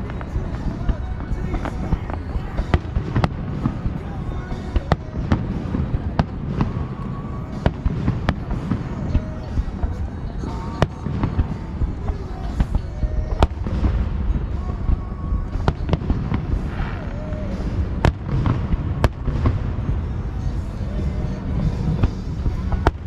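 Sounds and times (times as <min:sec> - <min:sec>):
fireworks bangs and crackles: 0:00.0 - 0:23.0
fireworks rumbling: 0:00.0 - 0:23.0.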